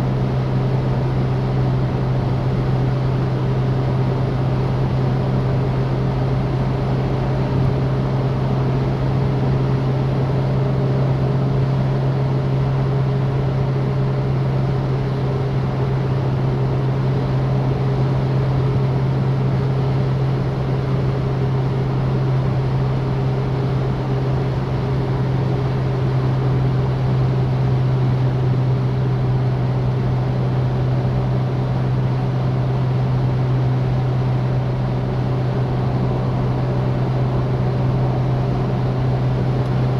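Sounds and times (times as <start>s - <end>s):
car engine droning: 0.0s - 39.9s
wind and road noise: 0.0s - 39.9s.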